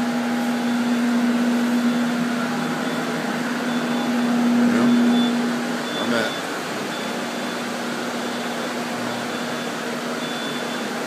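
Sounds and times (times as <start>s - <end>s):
drying fans humming: 0.0s - 11.0s.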